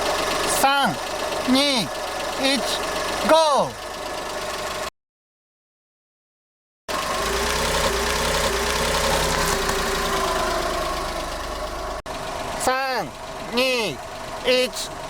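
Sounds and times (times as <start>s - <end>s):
car engine idling: 0.0s - 4.9s, 6.9s - 15.0s.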